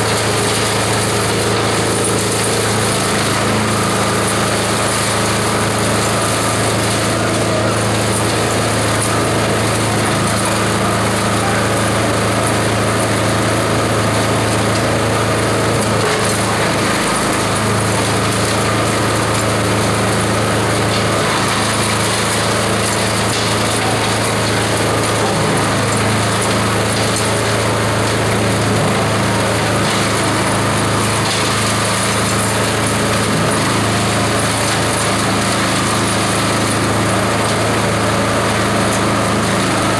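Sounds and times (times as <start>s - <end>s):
coconut husks shredding: 0.0s - 39.9s
shredder machine drone: 0.0s - 39.9s.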